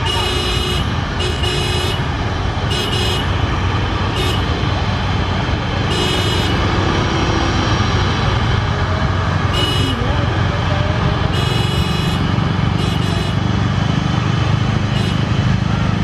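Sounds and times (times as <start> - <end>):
motorbikes on road: 0.0 - 16.0.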